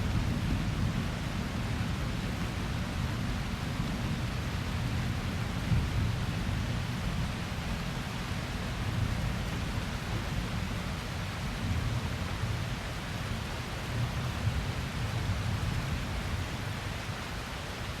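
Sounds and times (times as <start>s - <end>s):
steady rain hissing: 0.0s - 18.0s.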